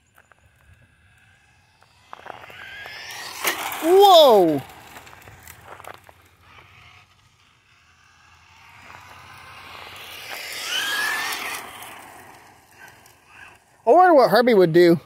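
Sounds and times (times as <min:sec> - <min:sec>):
remote-control car motor whine: 0:00.0 - 0:13.8.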